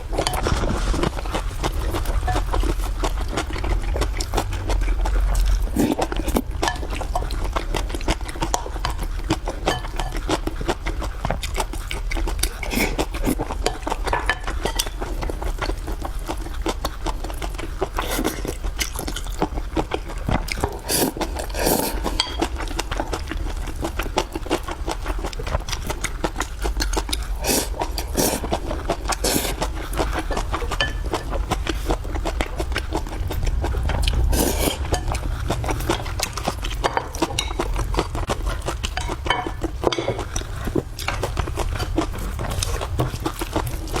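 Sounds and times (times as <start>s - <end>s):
chewing and wet mouth sounds: 0.0s - 44.0s
steady low hum: 0.0s - 44.0s.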